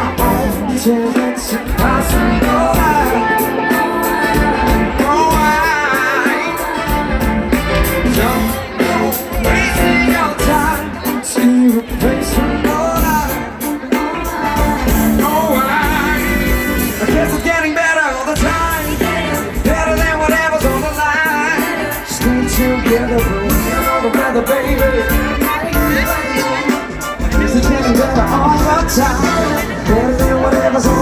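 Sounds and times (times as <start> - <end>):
live pop-rock band playing: 0.0 - 31.0
person singing: 0.0 - 31.0.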